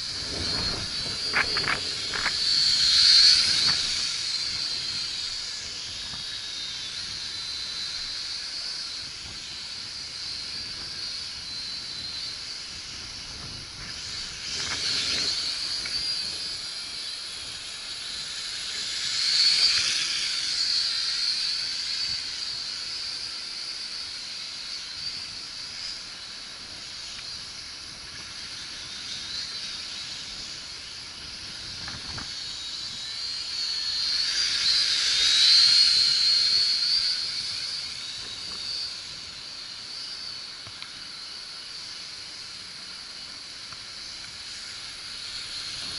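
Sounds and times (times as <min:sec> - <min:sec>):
quadcopter propellers whining: 0:00.0 - 0:45.9.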